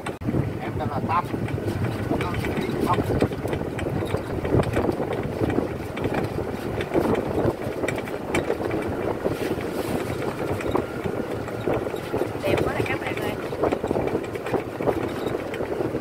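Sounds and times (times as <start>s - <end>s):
cart rattling and knocking: 0.0s - 16.0s
tyres rumbling on concrete: 0.0s - 16.0s
wind on microphone: 0.0s - 16.0s.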